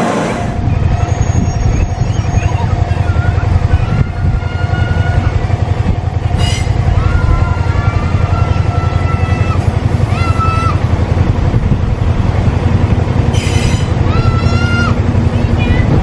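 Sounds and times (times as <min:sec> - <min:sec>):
low train rumble: 0:00.0 - 0:16.0.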